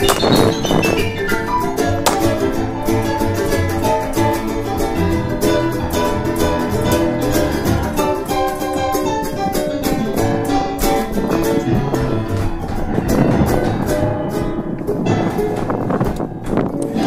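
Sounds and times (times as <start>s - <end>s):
guitar-led background music: 0.0s - 17.0s.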